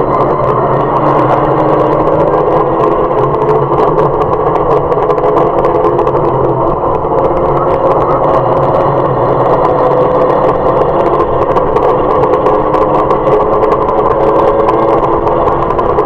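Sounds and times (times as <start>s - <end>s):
car engine running hard: 0.0s - 16.0s
road and wind noise: 0.0s - 16.0s.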